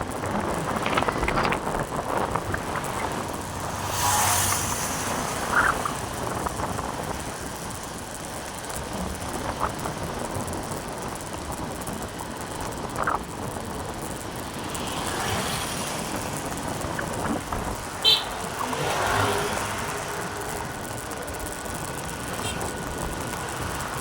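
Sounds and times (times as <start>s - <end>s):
motorcycle running on road: 0.0s - 24.0s.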